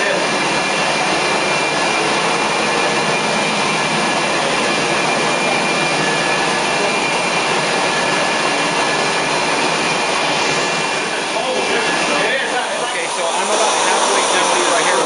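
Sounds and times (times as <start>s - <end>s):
extraction vacuum rushing whine: 0.0s - 15.0s.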